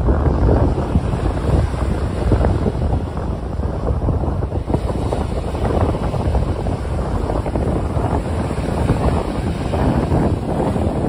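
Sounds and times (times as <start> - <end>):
small waves breaking on beach: 0.0 - 11.0
wind buffeting microphone: 0.0 - 11.0.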